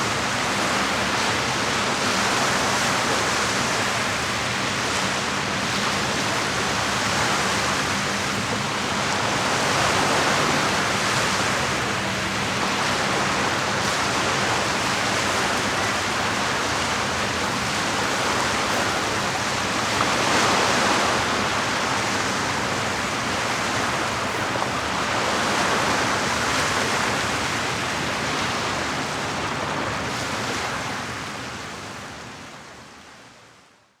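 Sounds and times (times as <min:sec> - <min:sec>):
lake water lapping against shore: 0:00.0 - 0:32.4.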